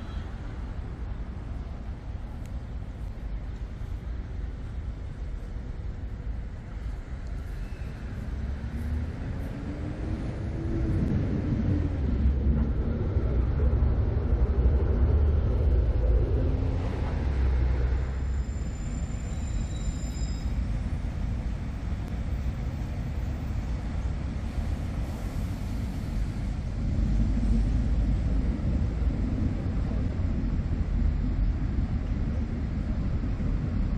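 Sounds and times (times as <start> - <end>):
low rumble of city traffic: 0.0 - 33.9.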